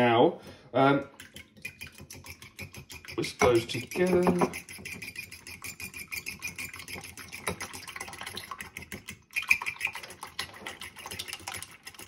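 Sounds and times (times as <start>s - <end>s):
fork whisking eggs in a bowl: 1.2s - 12.0s.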